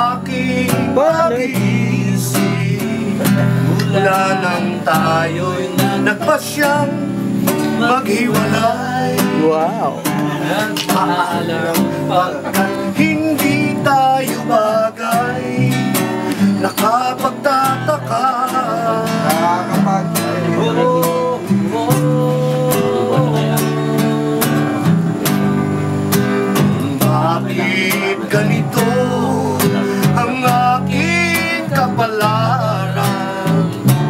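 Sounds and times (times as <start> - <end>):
acoustic guitar strumming chords: 0.0 - 34.0.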